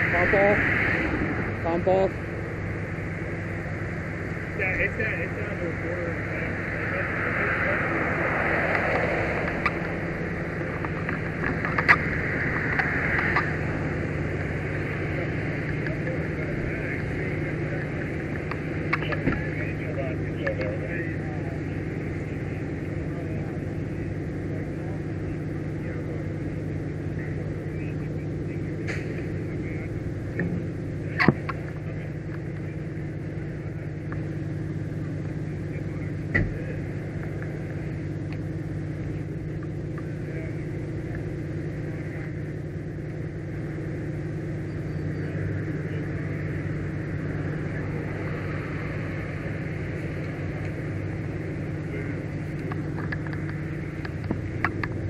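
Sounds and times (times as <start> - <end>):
large vehicle engine idling: 0.0 - 55.0.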